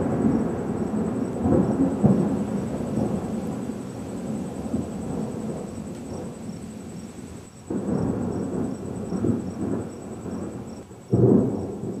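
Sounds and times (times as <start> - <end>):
thunder crash: 0.0 - 7.0, 7.7 - 12.0
thunder rumbling: 0.0 - 12.0.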